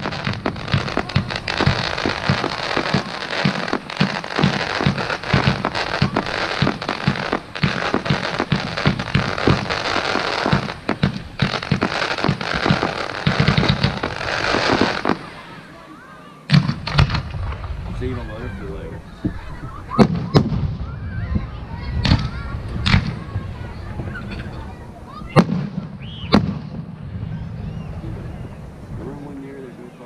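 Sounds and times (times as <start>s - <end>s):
low firework bangs: 0.0s - 15.8s, 16.5s - 29.4s
fireworks bursting and crackling: 0.0s - 30.0s.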